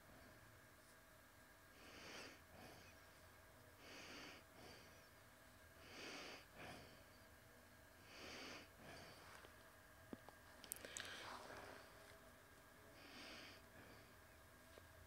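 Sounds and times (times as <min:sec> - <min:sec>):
low room hum: 0:00.0 - 0:15.0
faint breathing: 0:01.7 - 0:15.0.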